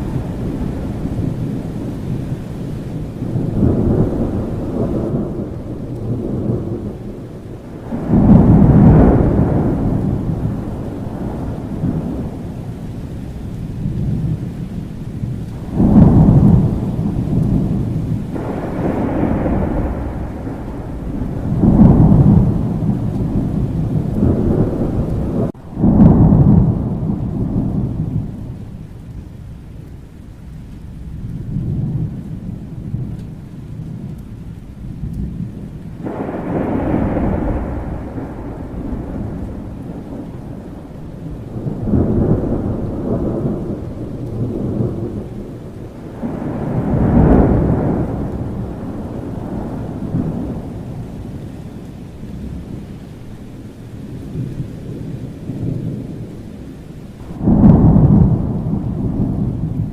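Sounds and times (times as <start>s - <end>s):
steady rain: 0.0s - 59.9s
thunder rumbling: 0.0s - 59.9s.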